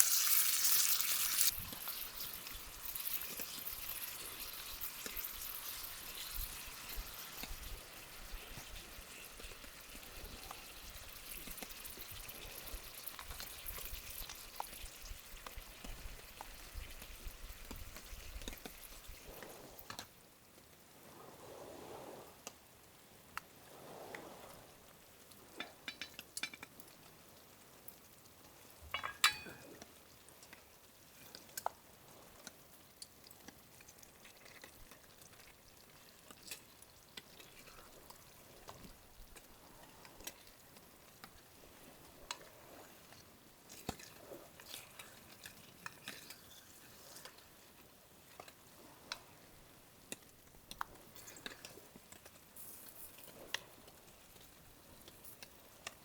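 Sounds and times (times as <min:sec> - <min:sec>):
faint sizzling: 0:00.0 - 0:56.0.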